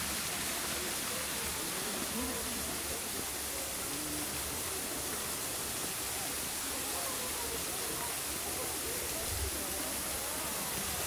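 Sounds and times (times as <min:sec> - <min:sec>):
distant people talking: 0:00.0 - 0:11.0
steady outdoor hiss: 0:00.0 - 0:11.0.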